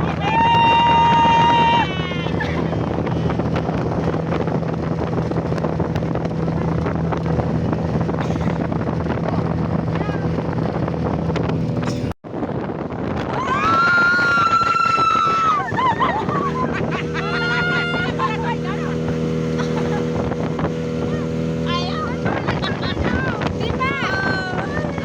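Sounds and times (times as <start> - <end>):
water rushing: 0.0 - 11.9, 13.2 - 25.0
motorboat engine running: 0.0 - 25.0
wind on microphone: 0.0 - 25.0.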